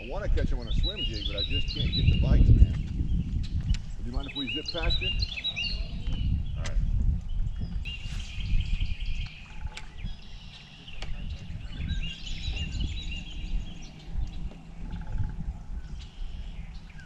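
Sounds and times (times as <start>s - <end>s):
low uneven rumble: 0.0s - 17.0s
wild birds singing and calling: 0.0s - 17.0s.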